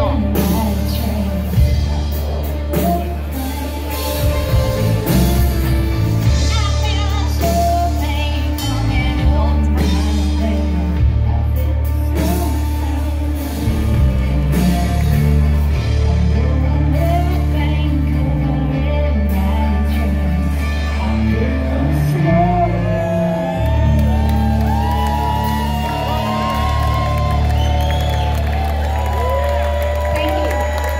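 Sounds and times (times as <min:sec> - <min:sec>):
woman singing: 0:00.0 - 0:27.5
live country rock band: 0:00.0 - 0:30.9.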